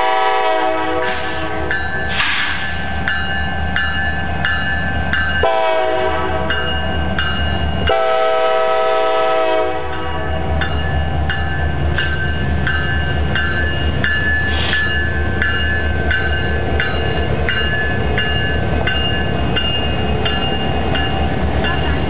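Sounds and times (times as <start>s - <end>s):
crossing bell clanging: 0.0s - 22.0s
diesel locomotive engines rumbling: 0.0s - 22.0s.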